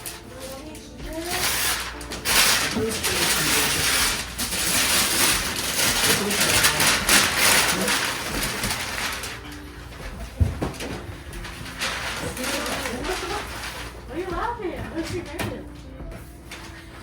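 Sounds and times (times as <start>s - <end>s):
wrapping paper crinkling and tearing: 0.0s - 17.0s.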